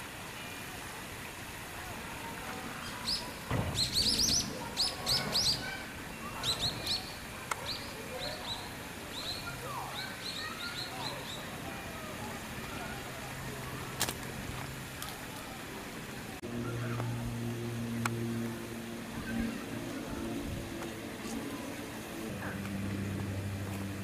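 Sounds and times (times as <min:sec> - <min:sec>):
birds chirping: 0:02.3 - 0:24.0.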